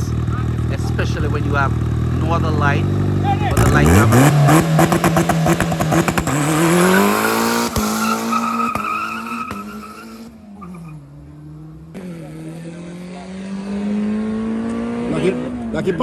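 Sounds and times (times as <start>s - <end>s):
race car accelerating hard: 0.0s - 16.0s.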